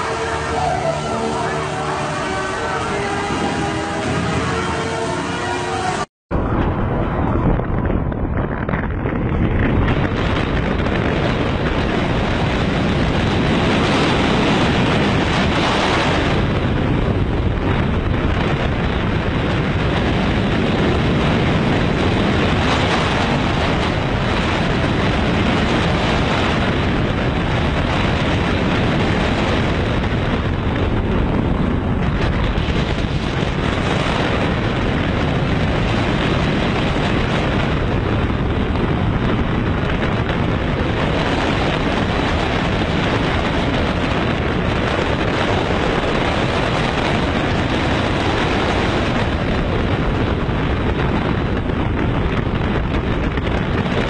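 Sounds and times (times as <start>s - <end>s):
roller coaster rumbling on track: 0.0s - 54.0s
wind rushing over microphone: 0.0s - 54.0s.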